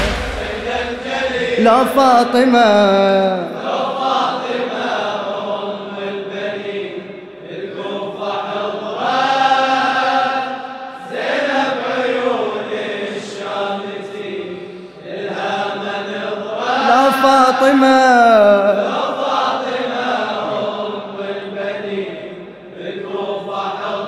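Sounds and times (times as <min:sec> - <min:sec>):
congregation chanting: 0:00.0 - 0:24.0.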